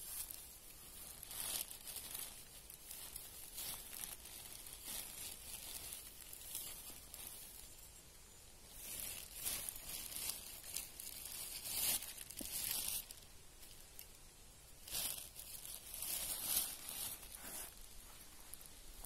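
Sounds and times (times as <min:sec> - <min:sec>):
dry leaves rustling and crunching: 0:00.0 - 0:08.0, 0:08.7 - 0:19.0.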